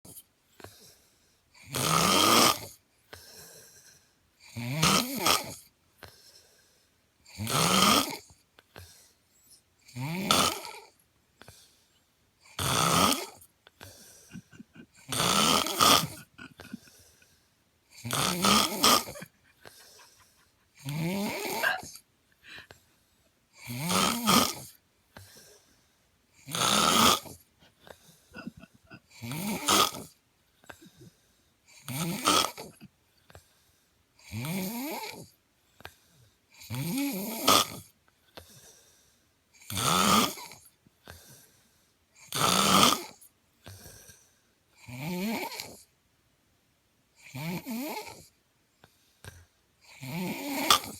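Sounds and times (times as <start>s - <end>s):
rasping snores: 0.1s - 11.8s, 12.4s - 22.8s, 23.6s - 25.8s, 26.4s - 41.6s, 42.2s - 45.9s, 47.2s - 48.4s, 49.2s - 50.9s.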